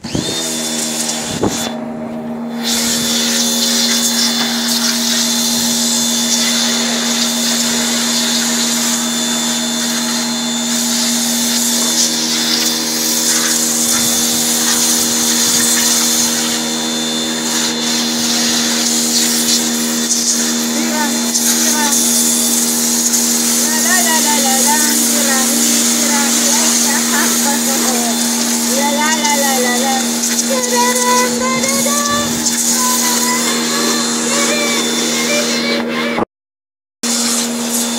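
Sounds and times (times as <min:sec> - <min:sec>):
pressure washer motor hum: 0:00.0 - 0:36.2, 0:37.0 - 0:37.9
water jet hissing on car: 0:02.5 - 0:36.2, 0:37.0 - 0:37.9.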